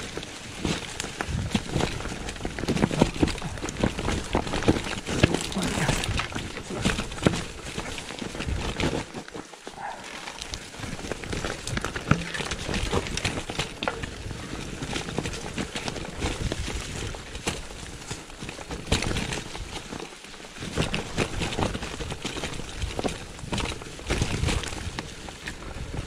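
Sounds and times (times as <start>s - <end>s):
bike rattling over bumps: 0.0s - 26.0s
tyres crackling over dry leaves: 0.0s - 26.0s.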